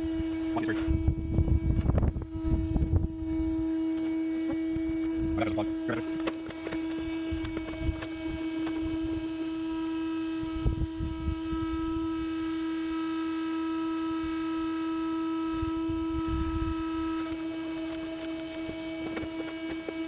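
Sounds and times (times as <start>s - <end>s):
honeybee colony humming: 0.0s - 20.0s.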